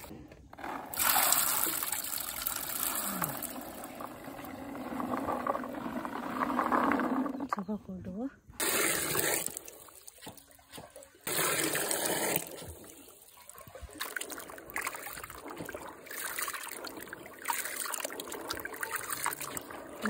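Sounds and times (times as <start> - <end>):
water splashing and trickling: 0.9 - 6.2, 8.6 - 20.0
water pouring into plastic basin: 0.9 - 7.1, 8.6 - 20.0.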